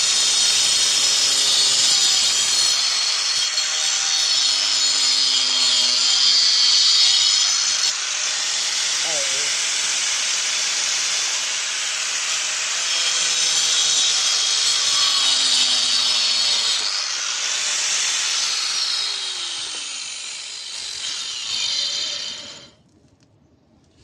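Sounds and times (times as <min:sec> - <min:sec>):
angle grinder cutting wood: 0:00.0 - 0:22.8.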